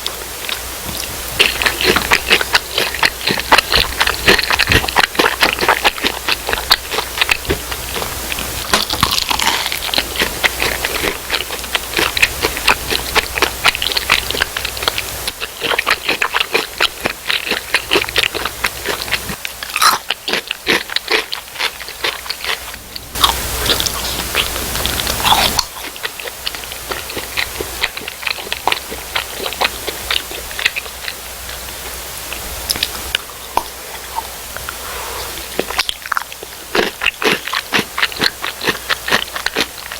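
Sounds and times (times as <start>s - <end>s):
crunching fried food: 0.0s - 39.9s.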